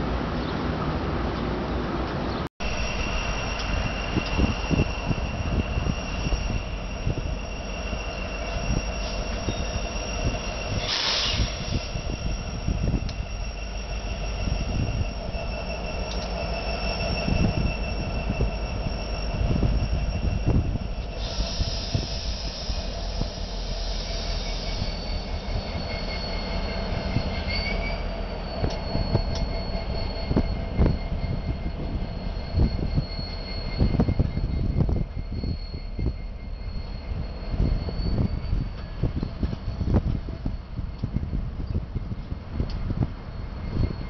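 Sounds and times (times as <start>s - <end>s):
diesel locomotive engines rumbling: 0.0s - 44.0s
high-pitched wheel squeal: 2.6s - 44.0s.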